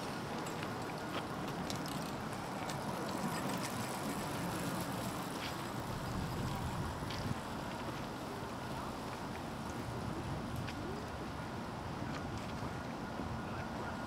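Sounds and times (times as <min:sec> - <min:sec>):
city street noise: 0:00.0 - 0:14.0.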